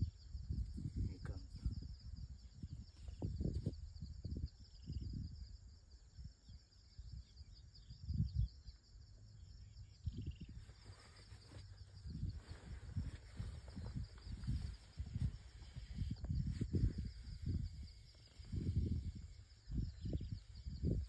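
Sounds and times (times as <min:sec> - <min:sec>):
high insect trill: 0:00.0 - 0:21.0
wind buffeting microphone: 0:00.0 - 0:21.0.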